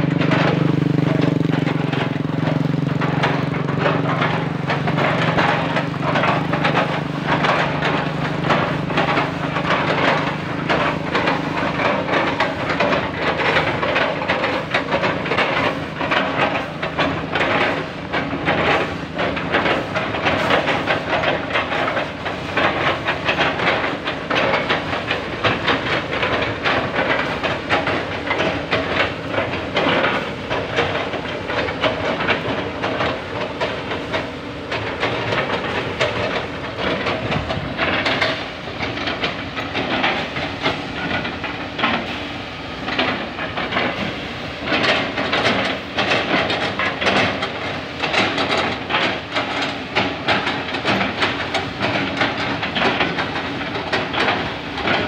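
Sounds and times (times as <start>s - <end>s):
diesel engine drone: 0.0s - 55.0s
excavator buckets crunching trunks: 0.0s - 55.0s.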